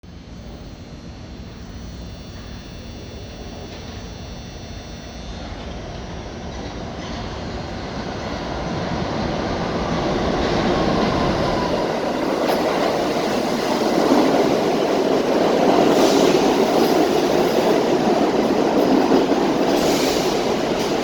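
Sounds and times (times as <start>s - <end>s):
subway train wheel and track noise: 0.0s - 21.0s.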